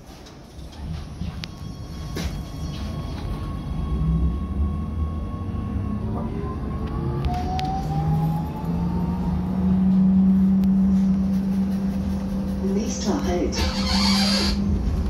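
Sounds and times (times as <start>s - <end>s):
tram rolling rumble: 0.0s - 15.0s.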